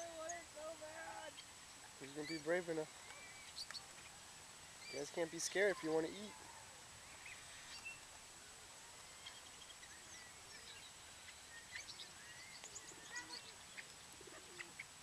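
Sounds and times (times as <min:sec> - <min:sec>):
outdoor background noise: 0:00.0 - 0:15.0
park birds chirping: 0:00.0 - 0:15.0.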